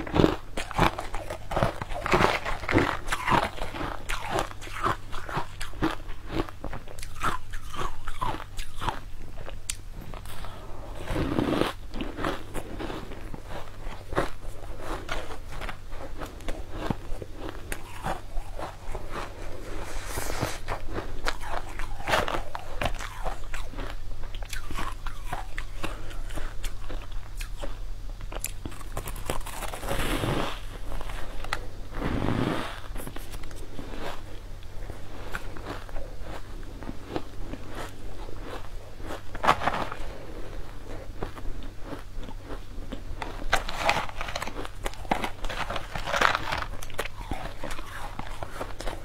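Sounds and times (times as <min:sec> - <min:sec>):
chewing crunchy food: 0:00.0 - 0:49.0
steady low hum: 0:00.0 - 0:49.0.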